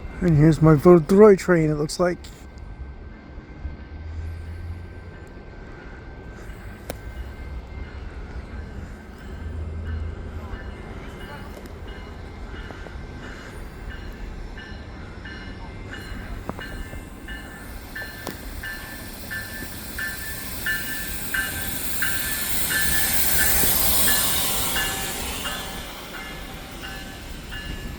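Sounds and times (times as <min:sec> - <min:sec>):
rush of passing train: 0:00.0 - 0:27.9
locomotive bell ringing: 0:00.1 - 0:02.3, 0:06.4 - 0:27.9.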